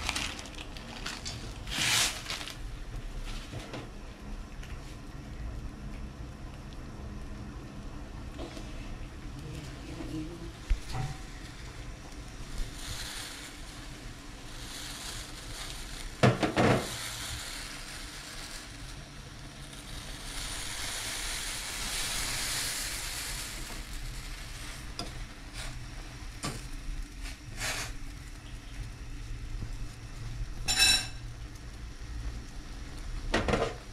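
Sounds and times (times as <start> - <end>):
broth boiling in a pot: 0.0 - 33.9.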